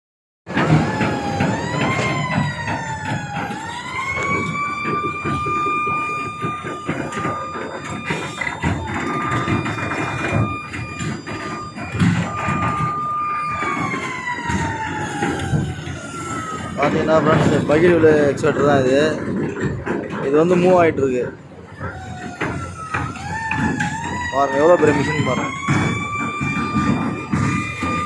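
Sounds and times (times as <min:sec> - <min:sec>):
machine rumbling and clattering: 0:00.5 - 0:28.0
warning siren wailing: 0:00.5 - 0:28.0.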